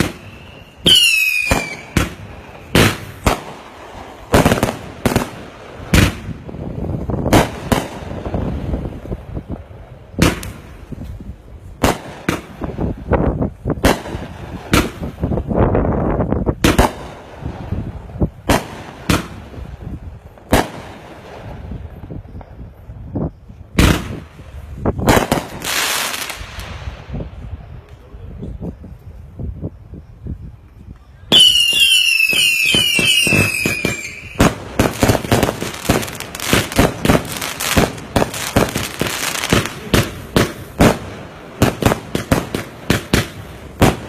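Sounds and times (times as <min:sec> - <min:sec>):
firework bangs: 0:00.0 - 0:28.8, 0:31.3 - 0:44.0
firework hiss: 0:00.0 - 0:29.6, 0:30.7 - 0:44.0.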